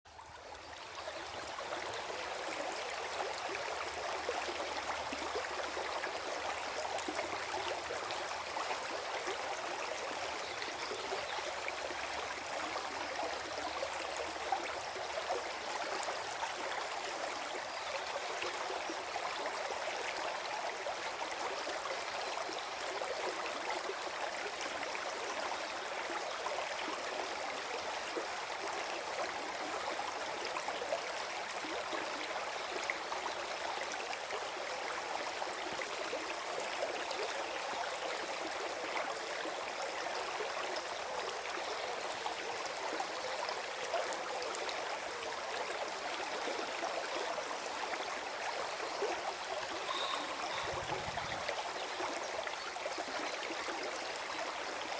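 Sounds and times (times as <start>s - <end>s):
stream gurgling over stones: 0.1s - 54.9s.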